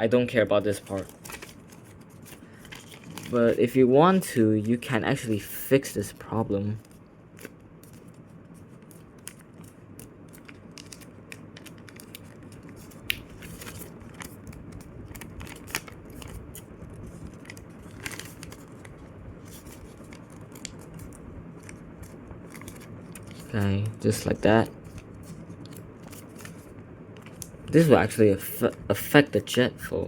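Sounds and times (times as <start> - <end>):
paper being folded and creased: 0.7 - 3.8, 6.8 - 29.7.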